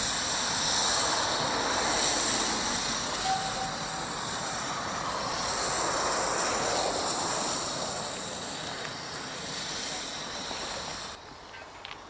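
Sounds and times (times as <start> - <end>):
steam locomotive hissing steam: 0.0 - 11.4.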